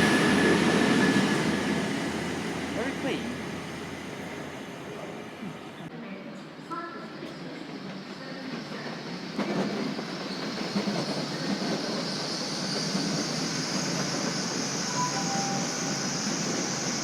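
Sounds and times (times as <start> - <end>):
train wheels rolling on rails: 0.0 - 5.9, 7.2 - 17.0.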